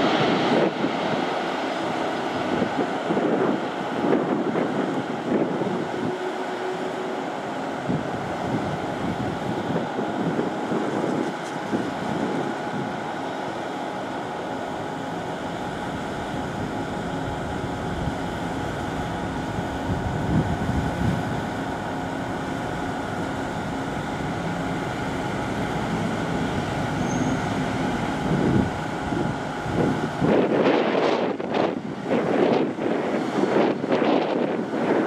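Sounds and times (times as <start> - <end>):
wind buffeting microphone: 0.0 - 6.3, 7.7 - 13.2, 15.2 - 35.0
jet engines roaring and whining: 0.0 - 35.0.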